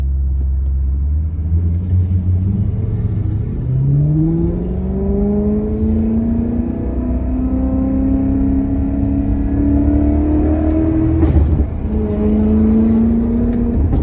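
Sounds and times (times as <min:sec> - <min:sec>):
car engine rumbling and revving: 0:00.0 - 0:14.0.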